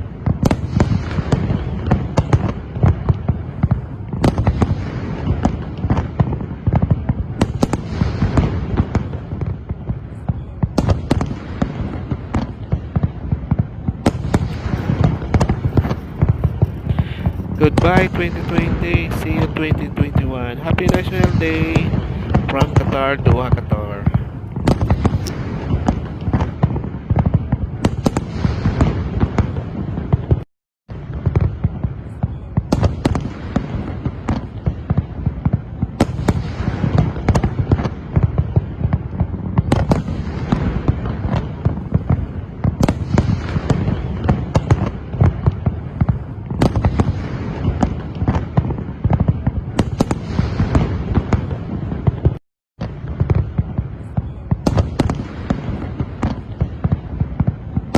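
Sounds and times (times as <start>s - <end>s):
fireworks crackling: 0.0s - 57.9s
fireworks shells booming: 0.0s - 57.9s.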